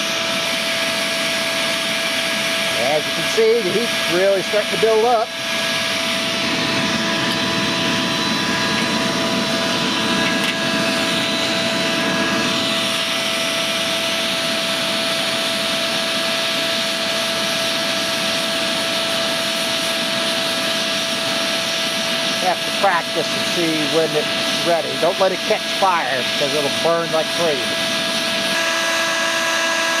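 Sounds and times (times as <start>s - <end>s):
electric blower whining: 0.0s - 30.0s.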